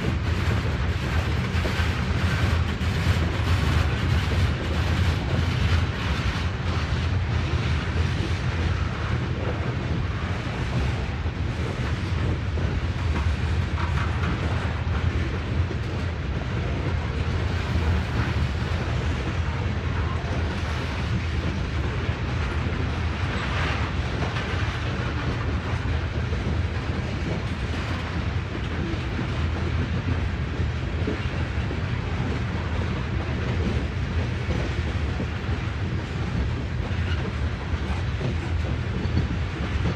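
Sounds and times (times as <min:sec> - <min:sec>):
train cars rolling on rails: 0:00.0 - 0:39.9.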